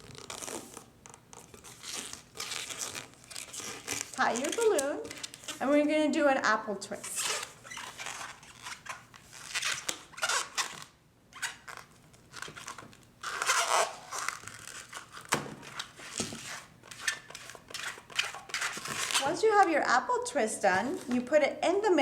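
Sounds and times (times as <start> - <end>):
balloon squeaking and rubbing: 0.0 - 5.9, 7.0 - 19.5.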